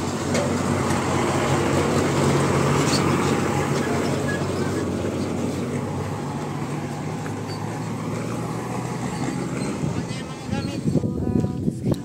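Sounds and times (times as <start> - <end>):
truck engine droning: 0.0 - 11.8
dirt road noise: 0.0 - 12.0.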